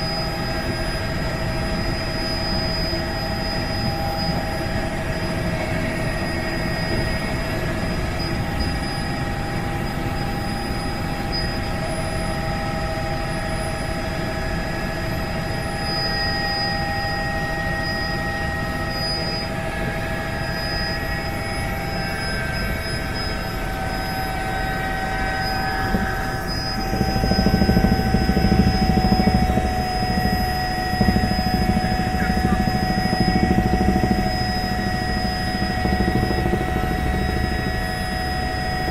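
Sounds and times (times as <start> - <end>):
helicopter engine whine: 0.0 - 38.9
helicopter rotor rumble: 0.0 - 38.9.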